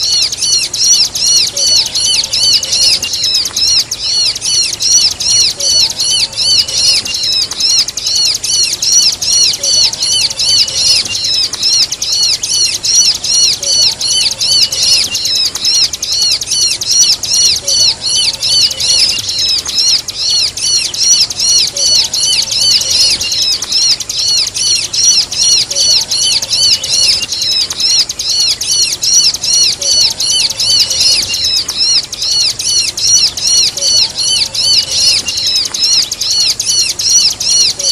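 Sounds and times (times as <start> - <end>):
bird chirping rapidly: 0.0 - 37.9.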